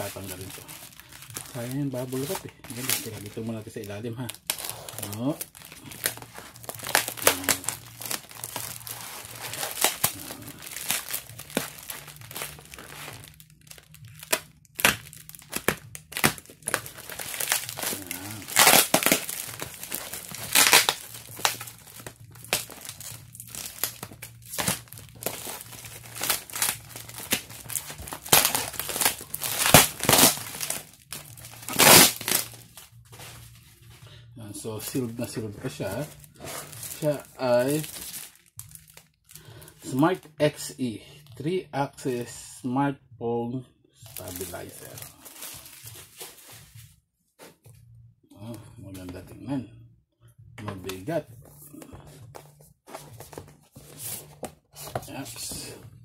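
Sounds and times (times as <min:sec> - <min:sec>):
bubble wrap crinkling: 0:00.0 - 0:34.0, 0:34.6 - 0:40.1, 0:44.0 - 0:47.5, 0:50.7 - 0:55.8.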